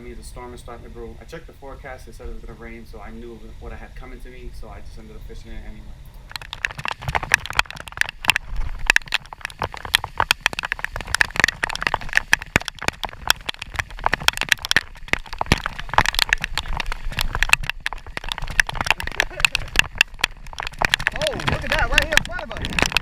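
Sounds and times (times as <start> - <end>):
low wind rumble: 0.0 - 23.0
raindrops pattering on microphone: 0.0 - 23.0.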